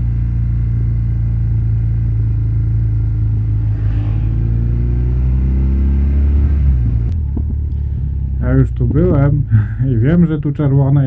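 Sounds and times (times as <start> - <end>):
motorcycle engine accelerating: 0.0 - 9.9.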